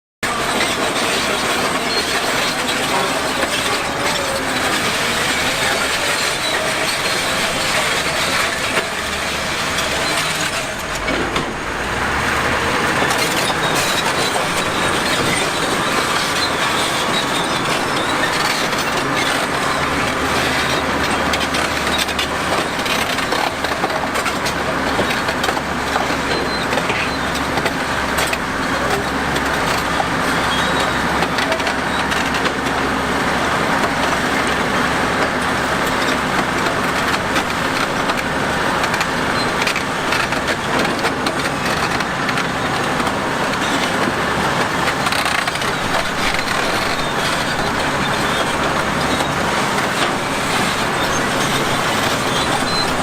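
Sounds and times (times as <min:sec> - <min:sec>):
heavy construction machinery clatter: 0:00.2 - 0:53.0.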